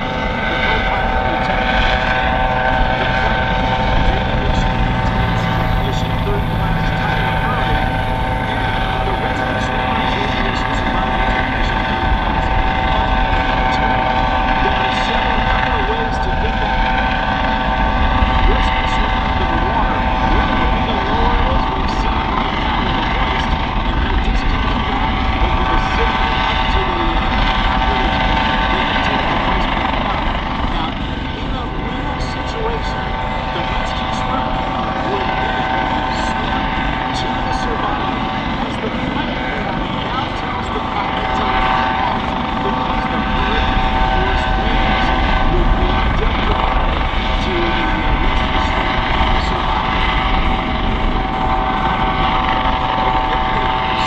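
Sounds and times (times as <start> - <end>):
helicopter rotor and turbine: 0.0 - 54.0
high whine: 0.0 - 54.0.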